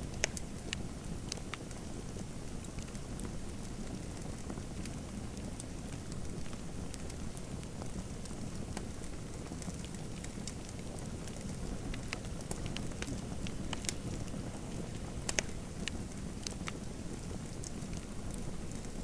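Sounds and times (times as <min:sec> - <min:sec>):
fire popping: 0:00.0 - 0:19.0
fireplace fire crackling: 0:00.0 - 0:19.0.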